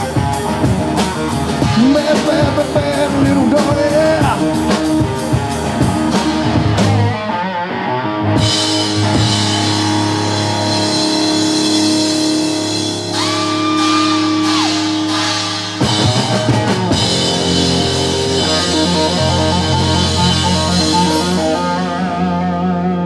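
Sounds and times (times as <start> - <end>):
electric guitar runs: 0.0 - 23.0
live rock band playing: 0.0 - 23.0.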